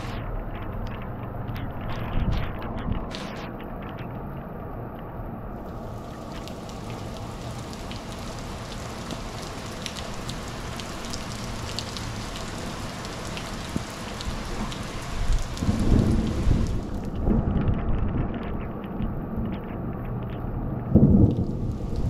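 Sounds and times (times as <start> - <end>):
heavy rain falling: 0.0 - 22.0
raindrops ticking close by: 0.2 - 22.0.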